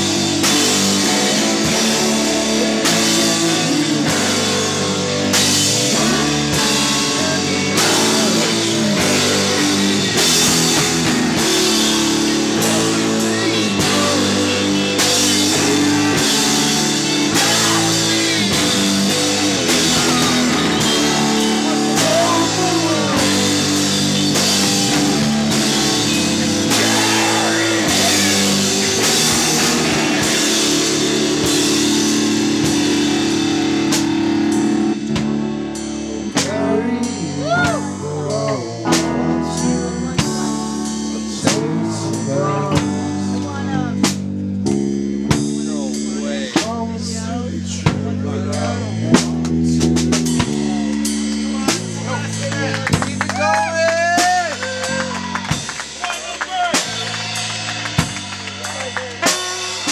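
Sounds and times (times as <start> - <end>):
electric guitar: 0.0 - 46.8, 47.8 - 59.9
drum kit beat: 0.0 - 59.9.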